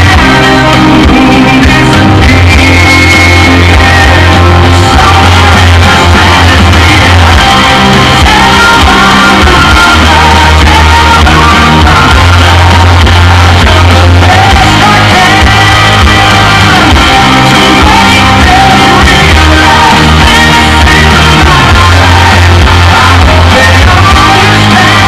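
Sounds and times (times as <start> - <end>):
loud music with held bass: 0.0 - 25.0
person singing: 0.0 - 25.0.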